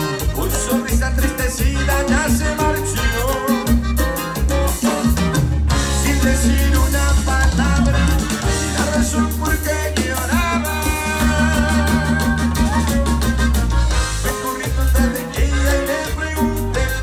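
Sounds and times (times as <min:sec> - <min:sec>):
accordion: 0:00.0 - 0:17.0
acoustic guitar: 0:00.0 - 0:17.0
bass line: 0:00.0 - 0:17.0
congas: 0:00.0 - 0:17.0
drum kit: 0:00.0 - 0:17.0
live band music: 0:00.0 - 0:17.0.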